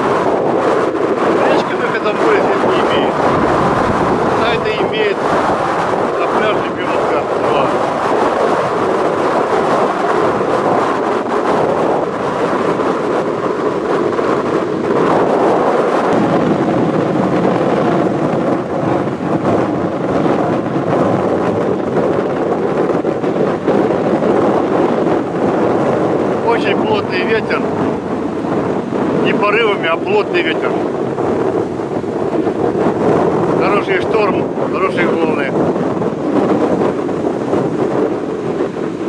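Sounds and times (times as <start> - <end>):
waves breaking on shore: 0.0 - 39.0
wind buffeting microphone: 0.0 - 39.0.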